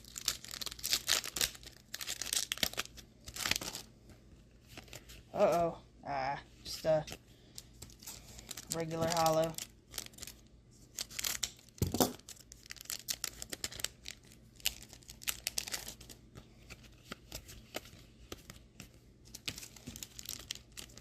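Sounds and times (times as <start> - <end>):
foil wrappers crinkling and tearing: 0.0 - 3.9, 6.7 - 21.0.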